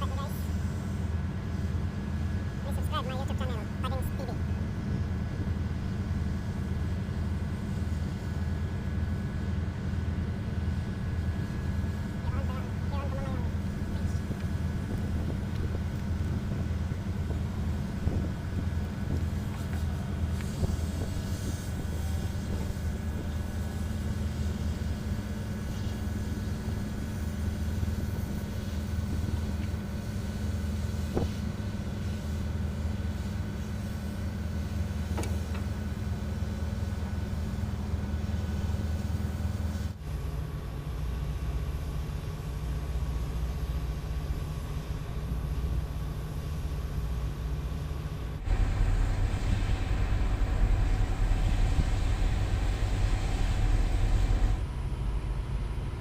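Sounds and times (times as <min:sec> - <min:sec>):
diesel engine rumbling: 0:00.0 - 0:56.0.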